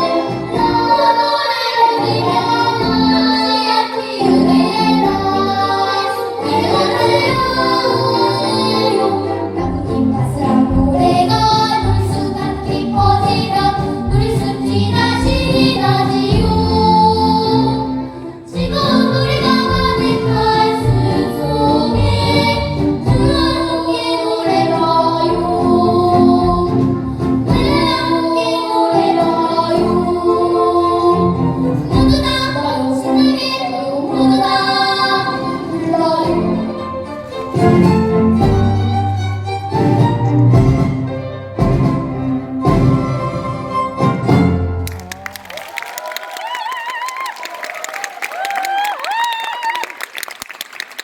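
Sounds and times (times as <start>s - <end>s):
children's choir singing: 0.0s - 44.4s
instrumental accompaniment: 0.0s - 45.3s.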